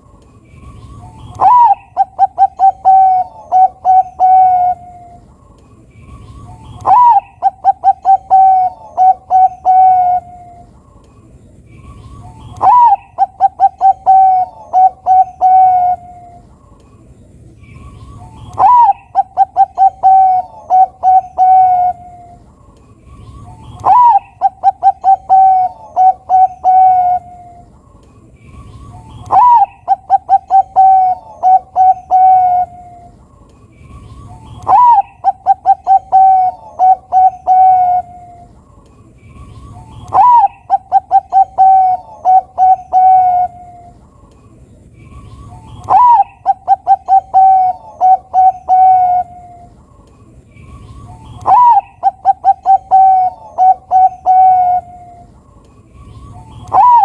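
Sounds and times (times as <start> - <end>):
dove cooing song: 0.6 - 10.9, 11.8 - 16.7, 17.7 - 44.3, 45.0 - 50.0, 50.6 - 57.0.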